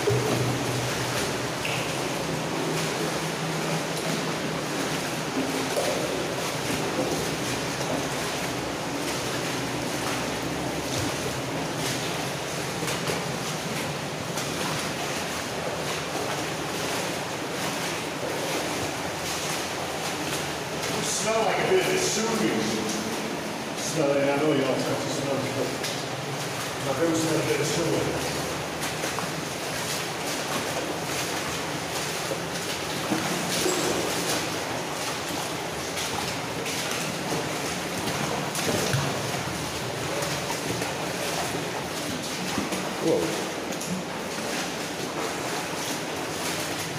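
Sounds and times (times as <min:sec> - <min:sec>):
faint footsteps: 0:00.0 - 0:46.9
water rushing through culvert: 0:00.0 - 0:46.9.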